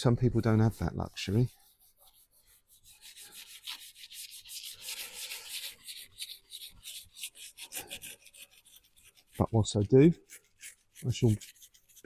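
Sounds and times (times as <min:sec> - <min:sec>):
hand sanding scratching strokes: 0:00.0 - 0:12.0.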